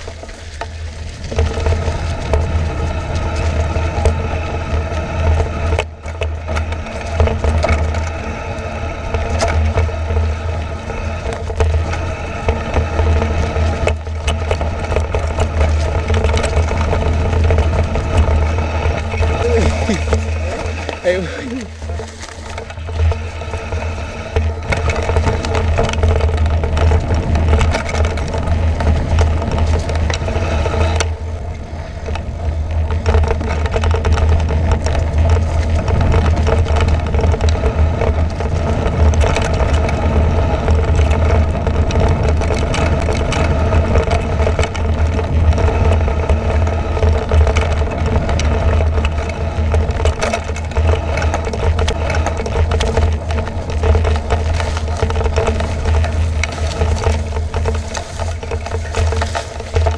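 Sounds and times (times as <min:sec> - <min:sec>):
mountain bike clattering: 0:00.0 - 0:59.9
steady hum: 0:00.0 - 0:59.9
wind rumbling on microphone: 0:00.0 - 0:59.9.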